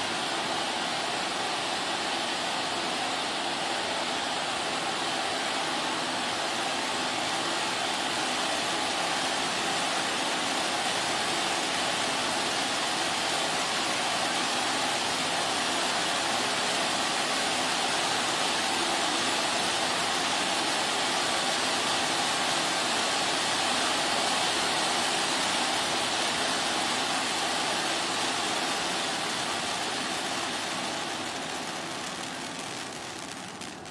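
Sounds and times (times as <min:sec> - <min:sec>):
firework fountain hissing: 0:00.0 - 0:33.9.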